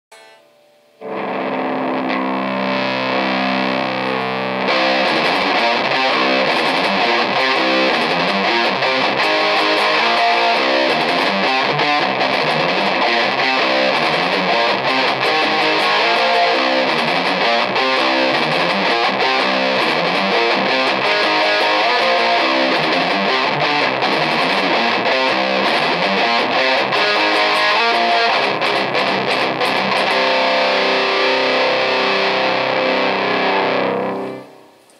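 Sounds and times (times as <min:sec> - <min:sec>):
distorted electric guitar: 0:00.1 - 0:34.9.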